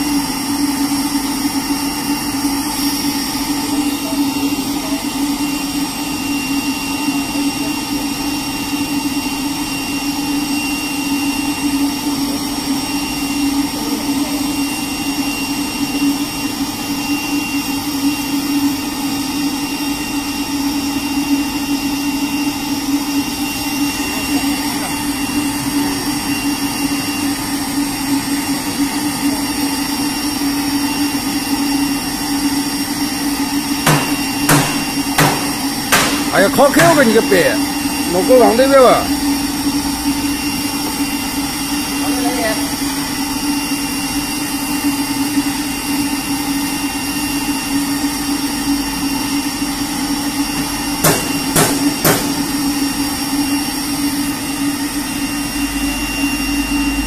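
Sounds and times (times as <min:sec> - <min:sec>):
high-pitched machine whines: 0:00.0 - 0:57.0
machine drone with low hum: 0:00.0 - 0:57.0.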